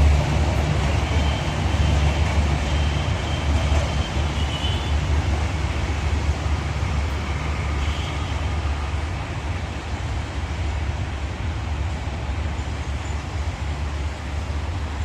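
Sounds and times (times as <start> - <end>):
rushing noise: 0.0 - 15.0
train rumbling over bridge: 0.0 - 15.0.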